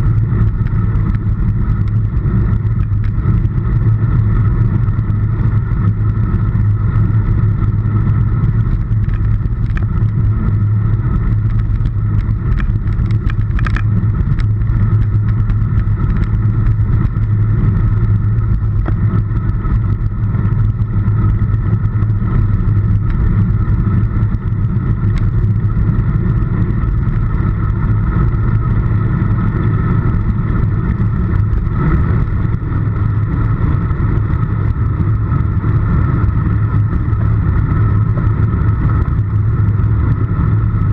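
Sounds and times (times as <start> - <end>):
tyre and road noise: 0.0 - 40.9
wind rushing over microphone: 0.0 - 40.9.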